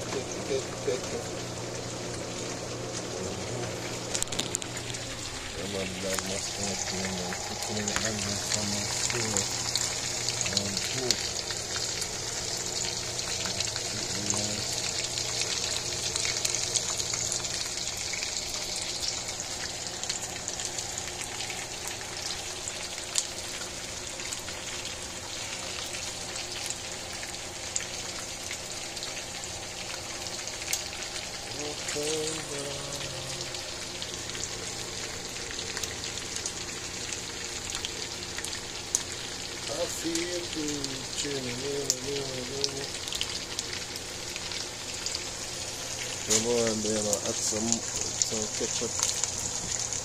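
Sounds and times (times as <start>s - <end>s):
chicken frying in hot oil: 0.0s - 50.0s.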